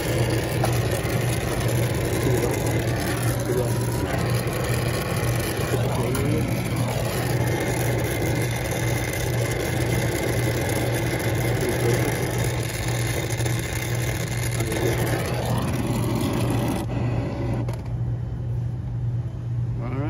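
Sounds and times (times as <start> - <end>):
torch flame hissing: 0.0 - 17.9
low mechanical hum: 0.0 - 20.0.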